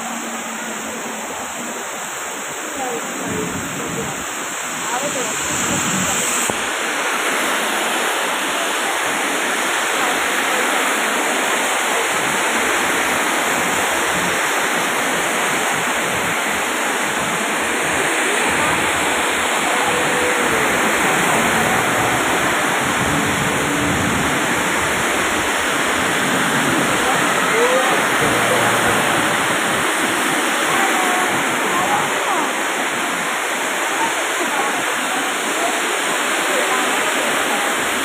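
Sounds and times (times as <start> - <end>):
heavy rain on road: 0.0 - 38.0
traffic on wet road: 2.6 - 38.0.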